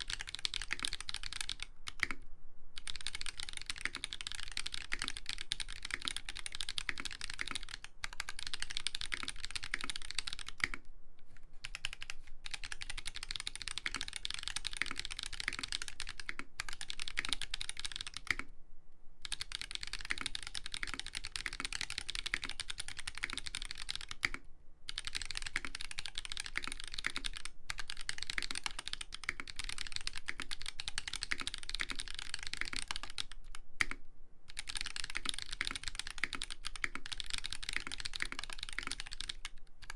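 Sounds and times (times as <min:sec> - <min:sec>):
fast typing on mechanical keyboard: 0:00.0 - 0:02.2, 0:02.8 - 0:10.9, 0:11.6 - 0:18.5, 0:19.2 - 0:39.9.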